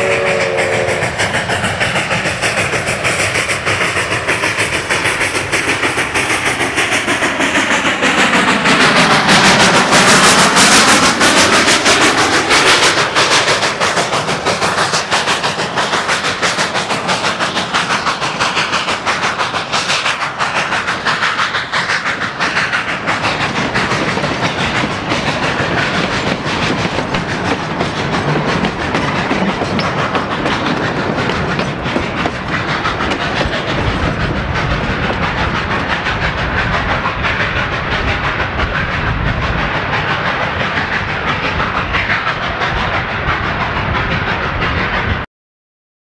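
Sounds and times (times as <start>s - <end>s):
train wheels clattering over rail joints: 0.8s - 45.1s.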